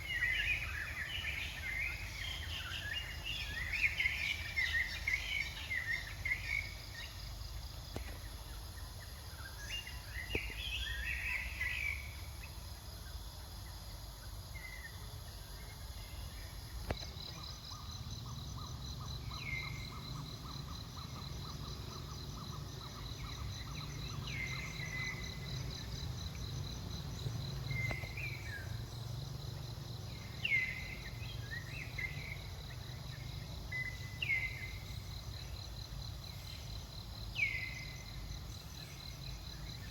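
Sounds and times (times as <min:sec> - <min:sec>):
pulsing insect trill: 0:00.0 - 0:39.9.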